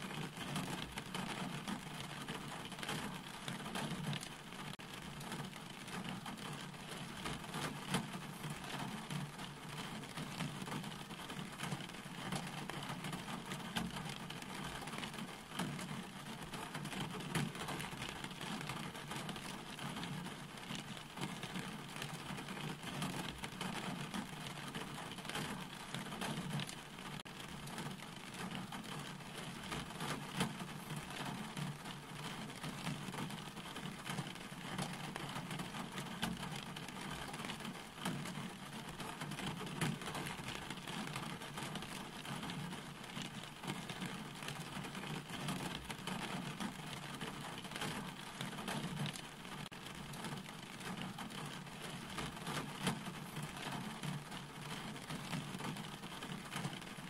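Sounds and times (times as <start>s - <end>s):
low rain rumble: 0.0s - 57.0s
rain drops pattering: 0.0s - 57.0s.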